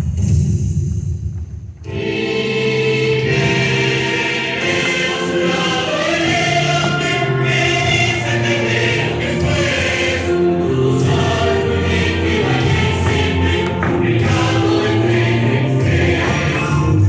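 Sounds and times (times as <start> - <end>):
choir singing held notes: 1.8 - 17.0
musical accompaniment: 1.8 - 17.0.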